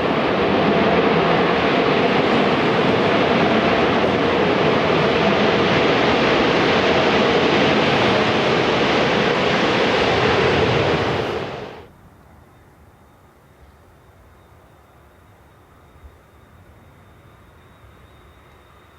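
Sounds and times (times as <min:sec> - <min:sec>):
jet airliner engines: 0:00.0 - 0:12.0, 0:13.4 - 0:18.9.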